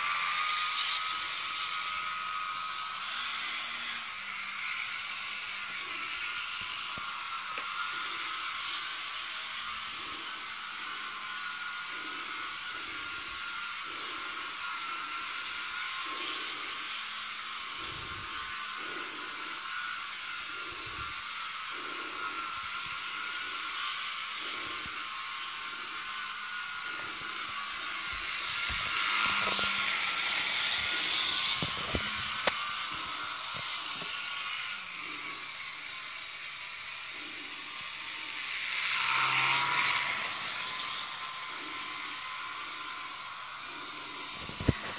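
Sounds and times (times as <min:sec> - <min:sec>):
model train motor whining: 0:00.0 - 0:44.9.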